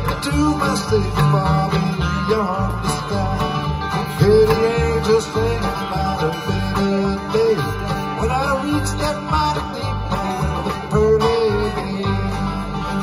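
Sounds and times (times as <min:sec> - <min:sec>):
strummed acoustic guitars: 0:00.0 - 0:13.0
upright bass plucking: 0:00.0 - 0:13.0.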